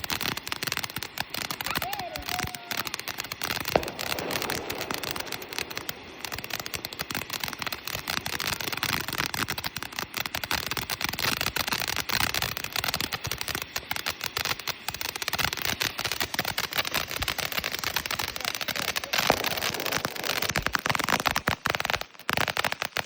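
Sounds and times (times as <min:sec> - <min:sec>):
firework crackling pops: 0:00.0 - 0:23.0.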